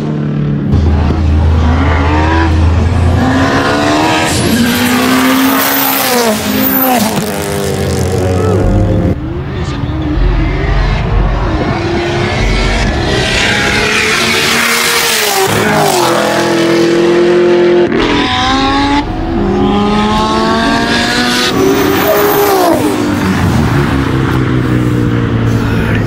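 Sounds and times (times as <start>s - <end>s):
car engine revving hard: 0.7s - 9.2s, 10.4s - 25.5s.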